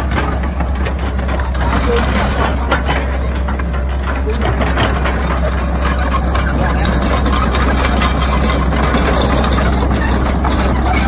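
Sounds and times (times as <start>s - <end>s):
excavator diesel engine running: 0.0s - 11.0s
metallic clanks and squeaks: 0.0s - 11.0s.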